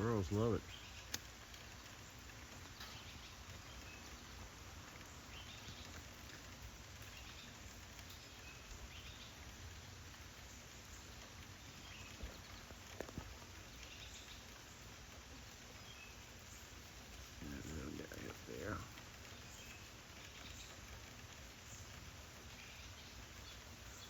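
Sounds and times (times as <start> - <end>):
water drips and taps: 0.0 - 22.6
light rain hiss: 0.0 - 24.0.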